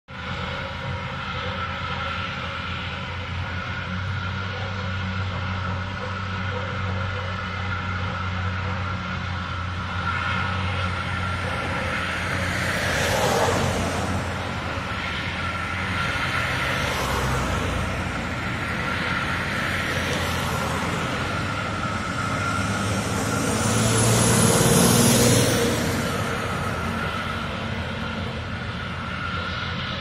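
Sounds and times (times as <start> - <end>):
power plant droning hum: 0.1 - 30.0
road traffic passing: 0.1 - 30.0.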